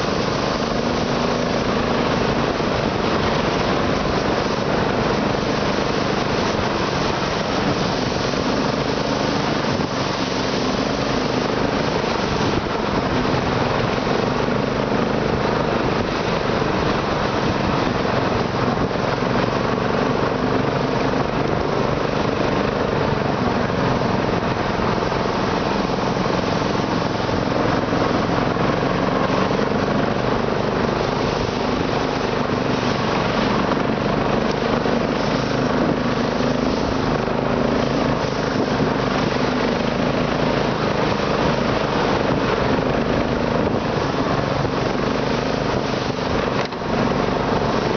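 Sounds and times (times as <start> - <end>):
engine running: 0.0 - 47.9.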